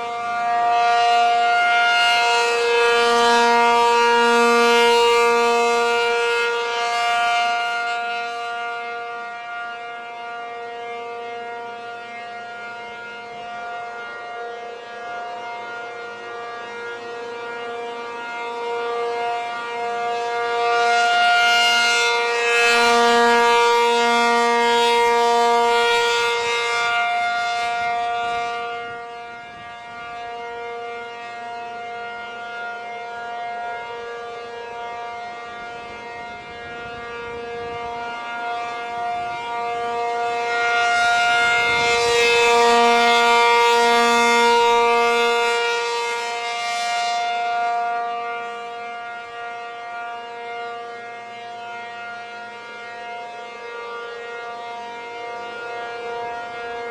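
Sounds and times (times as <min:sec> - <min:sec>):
tornado siren chord: 0:00.0 - 0:56.9.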